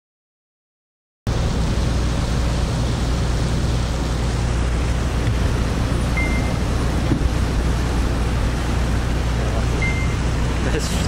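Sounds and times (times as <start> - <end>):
boat engine droning: 1.3 - 11.0
water noise: 1.3 - 11.0
wind: 1.3 - 11.0.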